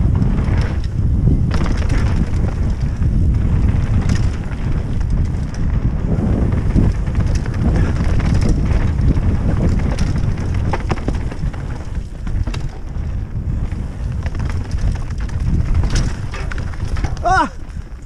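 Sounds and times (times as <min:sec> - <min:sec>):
bike knocking and rattling: 0:00.0 - 0:18.0
bike tyres on dirt: 0:00.0 - 0:18.0
wind on microphone: 0:00.0 - 0:18.0.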